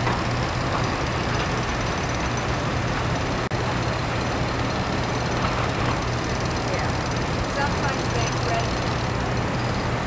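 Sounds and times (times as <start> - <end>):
heavy diesel machinery running: 0.0 - 10.0.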